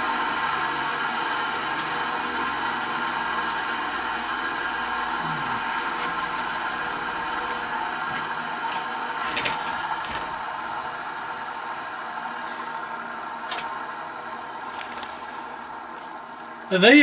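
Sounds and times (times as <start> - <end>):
bench grinder running: 0.0 - 17.0.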